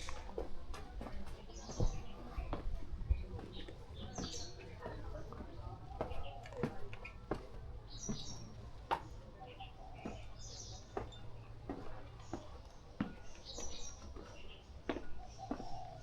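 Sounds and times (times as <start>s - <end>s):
footsteps on street: 0.0s - 16.0s
small birds chirping: 1.2s - 16.0s.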